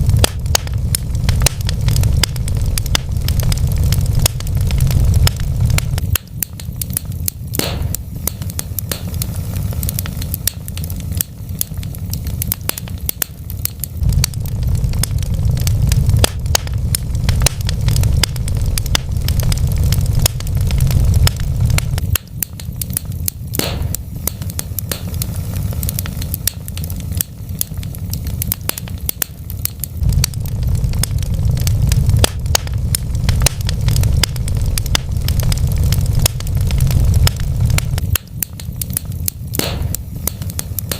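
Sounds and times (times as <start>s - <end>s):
fire low rumble: 0.0s - 40.9s
wood fire crackling and popping: 0.0s - 40.9s.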